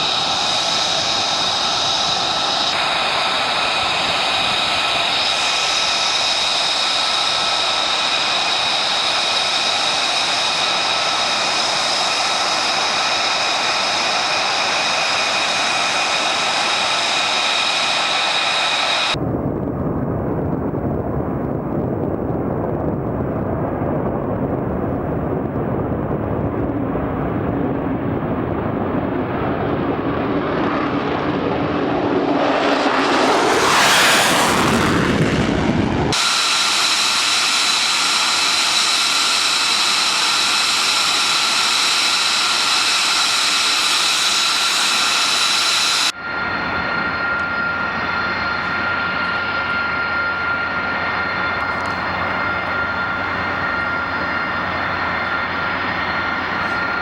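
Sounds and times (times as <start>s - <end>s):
jet engine roaring: 0.0s - 57.0s.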